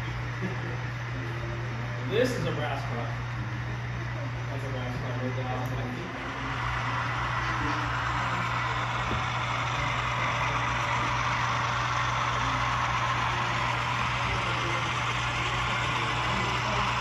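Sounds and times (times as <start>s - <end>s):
model locomotive diesel engine sound: 0.0s - 17.0s.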